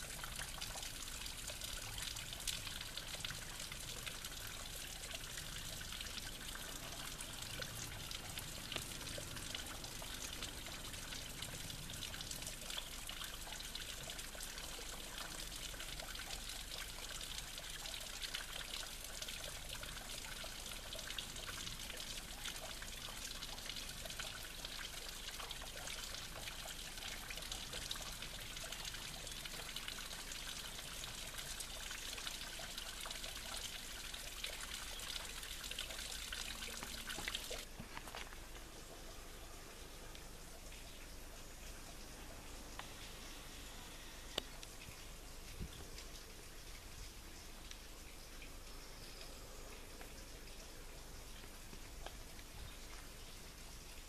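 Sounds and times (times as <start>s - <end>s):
water trickling over stone: 0.0s - 54.0s.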